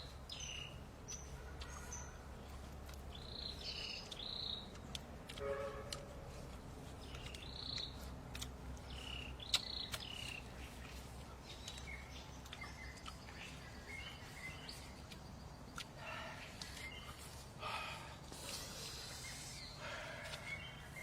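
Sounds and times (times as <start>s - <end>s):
bird chirps: 0.0s - 5.9s, 7.0s - 17.4s, 18.4s - 21.0s.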